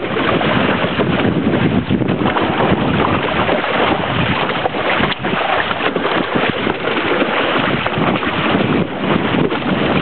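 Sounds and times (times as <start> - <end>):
water splashing along hull: 0.0 - 10.0
wind buffeting microphone: 0.0 - 10.0.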